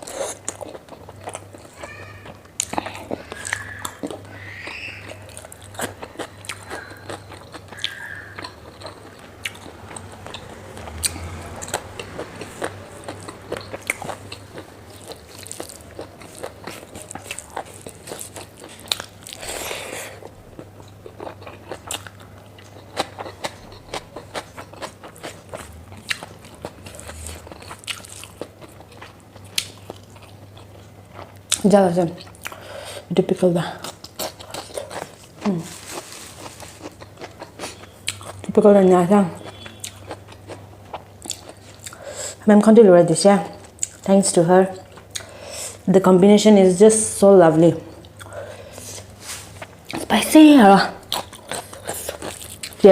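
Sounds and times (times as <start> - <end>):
person chewing food: 0.0 - 33.1, 33.8 - 38.6, 39.4 - 42.4, 43.5 - 44.1, 44.7 - 45.9, 47.9 - 50.1, 50.9 - 52.9.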